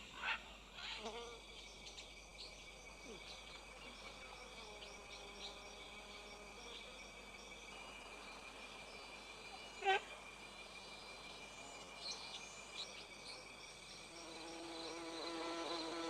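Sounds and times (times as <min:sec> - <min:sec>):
insect chirps: 0:00.0 - 0:16.0
insect drone: 0:00.0 - 0:16.0.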